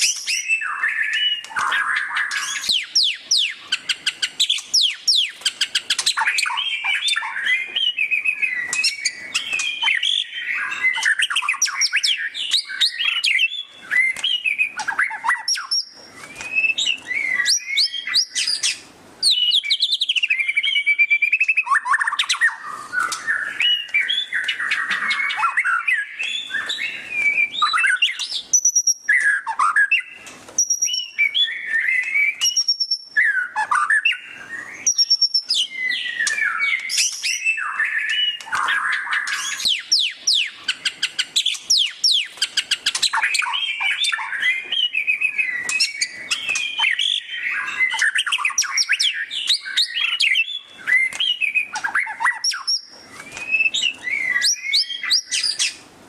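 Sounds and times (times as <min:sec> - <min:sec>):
songbird singing trills and warbles: 0:00.0 - 0:55.9.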